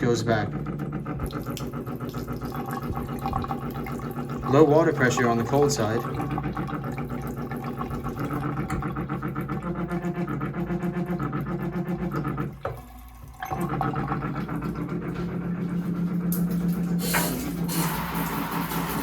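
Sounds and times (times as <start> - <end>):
pipe vibrating buzzing hum: 0.0 - 19.0.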